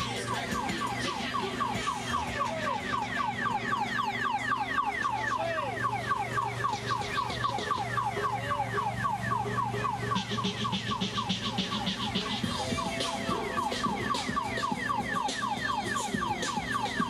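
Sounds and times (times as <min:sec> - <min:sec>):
electronic siren yelping: 0:00.0 - 0:17.0.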